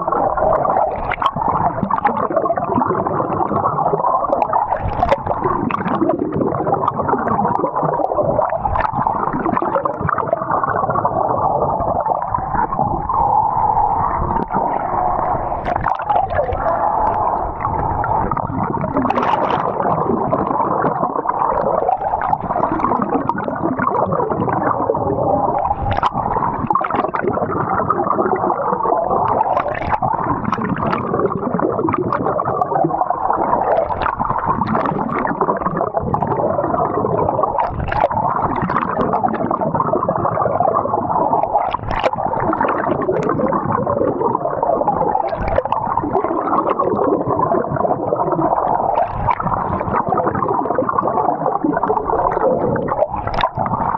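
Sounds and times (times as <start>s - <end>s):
muffled water gurgling and sloshing: 0.0s - 53.9s
water splashes: 0.0s - 53.9s.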